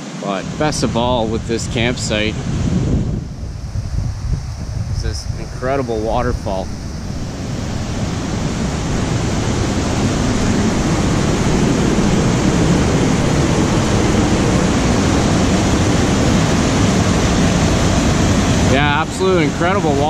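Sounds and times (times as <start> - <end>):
white water rushing: 0.0 - 2.8, 5.0 - 20.0.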